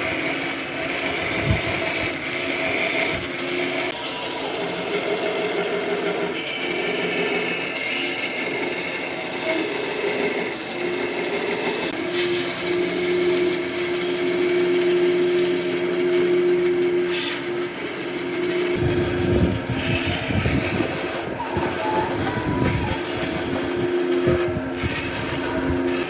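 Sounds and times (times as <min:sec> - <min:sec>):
electric power tool on wood: 0:00.0 - 0:26.0.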